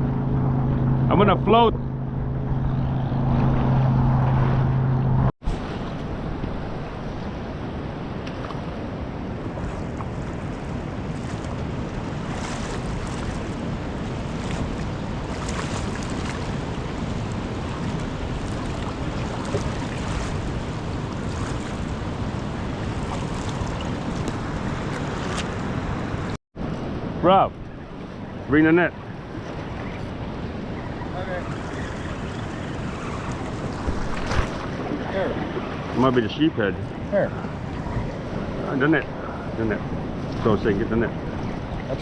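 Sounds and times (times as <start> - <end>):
wind and waves rushing: 0.0 - 42.0
wind buffeting microphone: 1.6 - 42.0.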